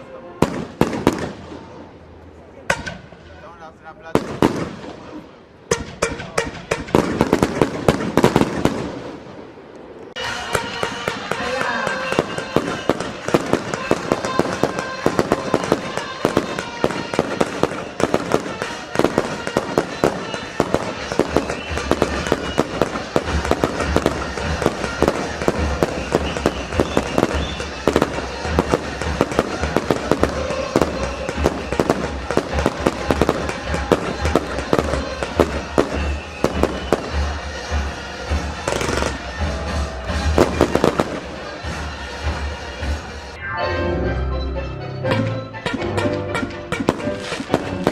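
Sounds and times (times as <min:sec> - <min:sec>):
firework bangs and crackles: 0:00.4 - 0:43.4, 0:45.7 - 0:47.9.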